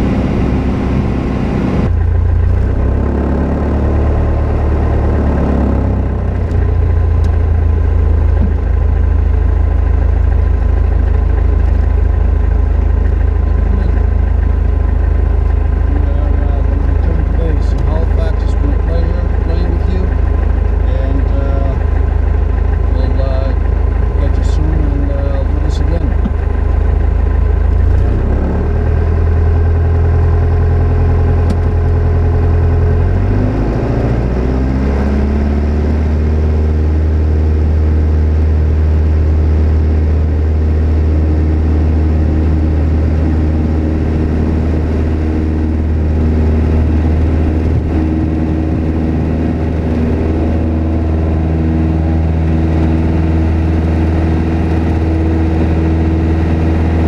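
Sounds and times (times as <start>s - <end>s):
propeller aircraft engine: 0.0s - 57.0s.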